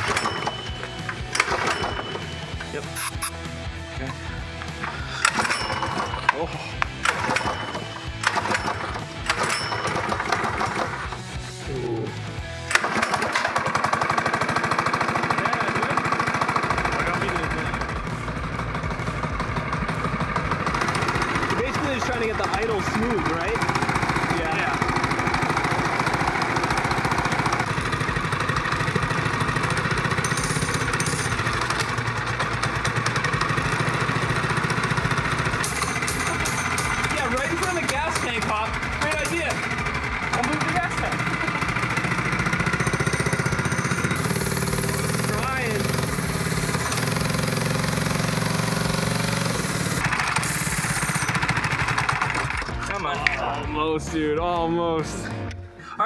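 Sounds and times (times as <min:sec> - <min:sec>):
small engine idling: 0:00.0 - 0:53.2.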